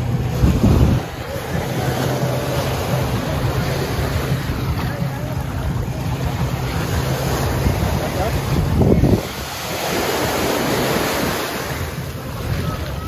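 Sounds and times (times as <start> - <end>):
faint voices: 0.0 - 13.0
small waves washing onto beach: 0.0 - 13.0
wind on microphone: 0.0 - 13.0.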